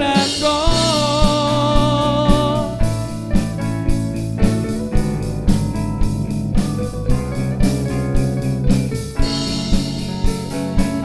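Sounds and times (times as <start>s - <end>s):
bass: 0.0s - 11.0s
drum kit beat: 0.0s - 11.0s.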